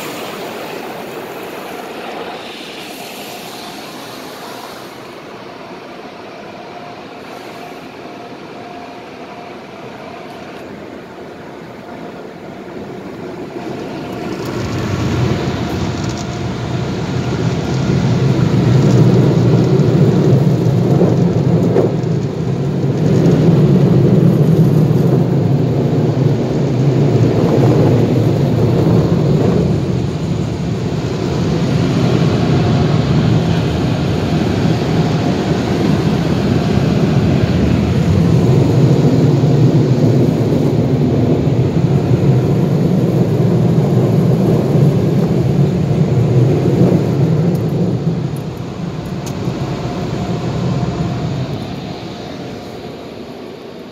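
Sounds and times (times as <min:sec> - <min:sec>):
car wash dryer blowers: 0:00.0 - 0:53.9.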